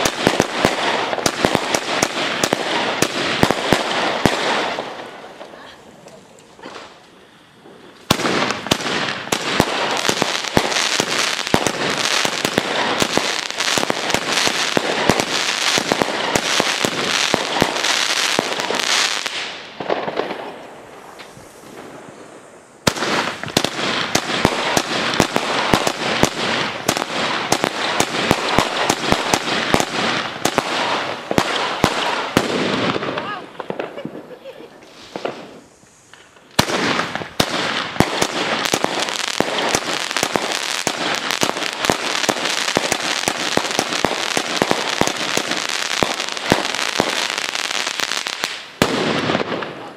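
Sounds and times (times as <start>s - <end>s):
fireworks shots and crackling: 0.0s - 49.9s.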